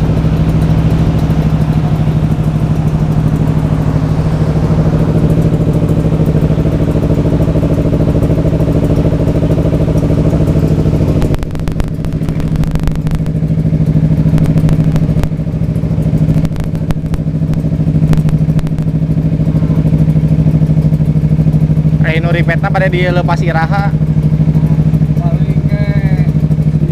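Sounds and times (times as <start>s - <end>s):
two-stroke motorcycle engine idling: 0.0s - 26.9s.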